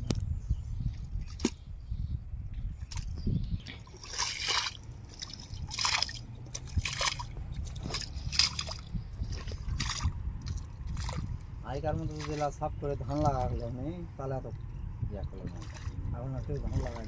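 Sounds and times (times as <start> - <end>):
water splashing: 1.1 - 1.6, 2.8 - 17.0.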